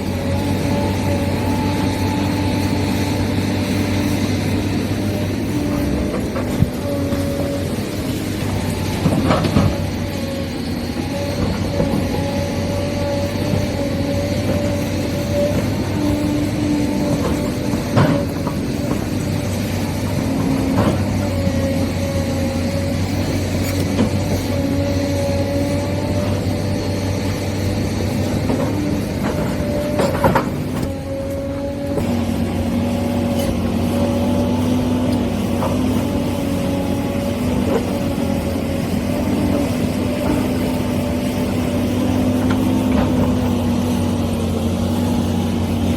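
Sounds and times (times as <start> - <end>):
electric motors whining: 0.0 - 45.9.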